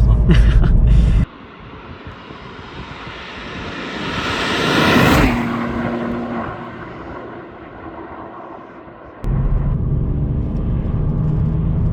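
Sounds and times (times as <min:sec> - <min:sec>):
car engine driving past: 0:01.3 - 0:11.9.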